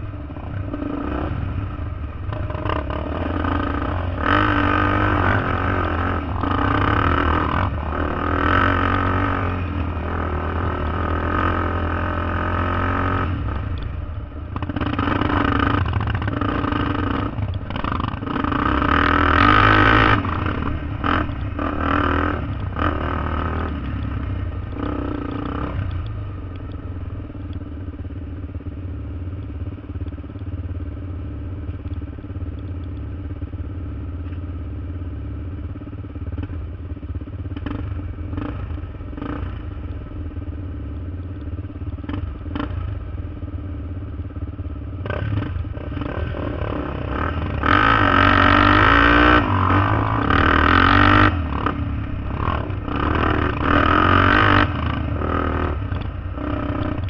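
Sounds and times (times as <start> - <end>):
atv engines revving and idling: 0.0 - 57.0.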